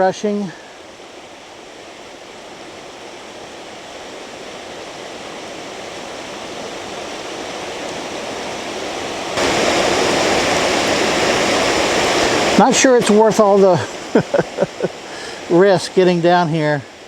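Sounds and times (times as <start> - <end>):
water rushing through rocky gorge: 0.0 - 17.0.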